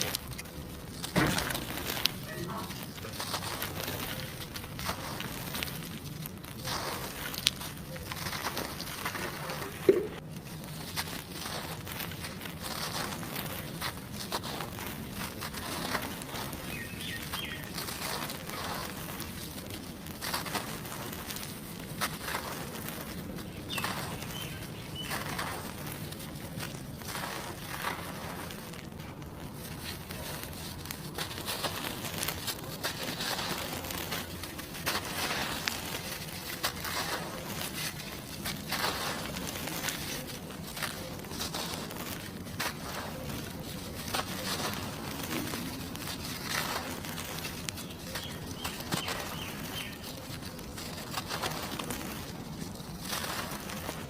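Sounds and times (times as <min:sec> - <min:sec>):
cement chunks crumbling: 0:00.0 - 0:54.0.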